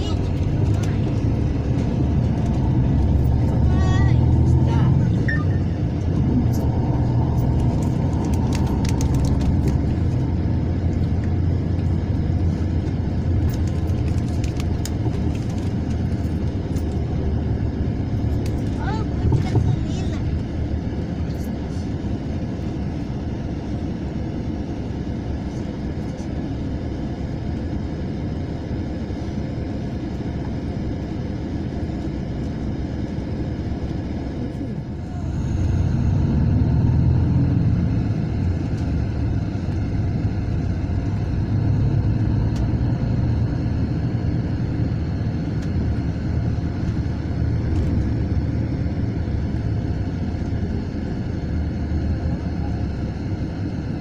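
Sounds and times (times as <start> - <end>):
diesel engine: 0.0 - 54.0
road rumble: 0.0 - 54.0.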